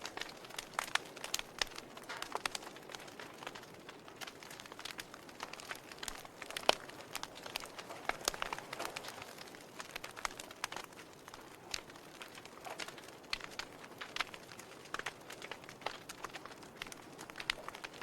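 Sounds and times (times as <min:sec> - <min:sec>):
faint hiss of fire: 0:00.0 - 0:18.0
wood fire crackling: 0:00.0 - 0:18.0.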